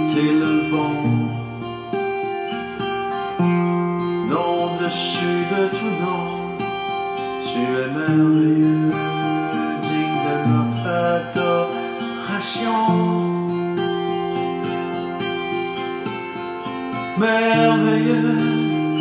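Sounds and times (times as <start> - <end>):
man singing: 0.0 - 2.0, 2.6 - 19.0
acoustic guitar chords: 0.0 - 19.0.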